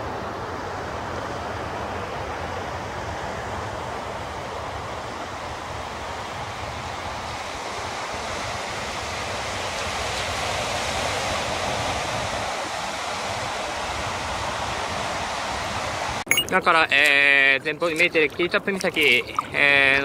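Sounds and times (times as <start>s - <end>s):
sea waves: 0.0s - 20.0s.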